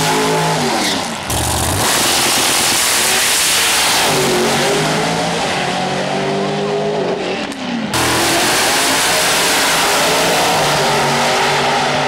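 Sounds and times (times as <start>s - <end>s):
drag racing engines at full throttle: 0.0s - 12.0s.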